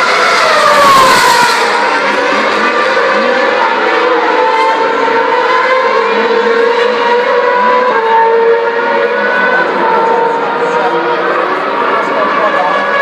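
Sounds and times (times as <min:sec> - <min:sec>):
racing car engines whining: 0:00.0 - 0:13.0.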